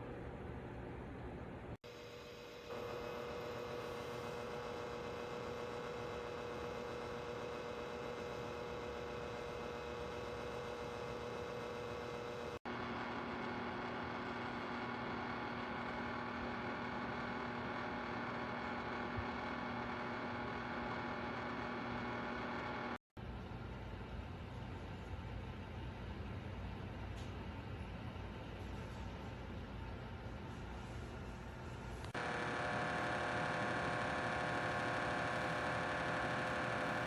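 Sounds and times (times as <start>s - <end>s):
heater hum: 0.0s - 37.0s.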